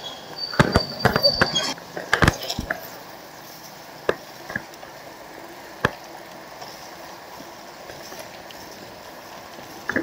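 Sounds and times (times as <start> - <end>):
bicycle tyres rolling on pavement: 0.0 - 10.0
wind: 0.0 - 10.0.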